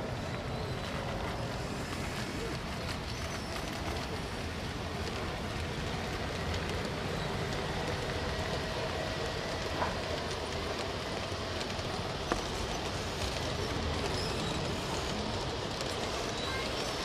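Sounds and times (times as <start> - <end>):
faint motor whine: 0.0 - 17.0
model train wheels rattling: 0.0 - 17.0.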